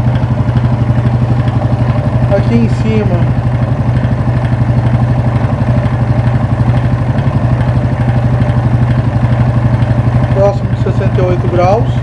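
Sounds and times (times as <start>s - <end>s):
single-cylinder engine running: 0.0s - 12.0s.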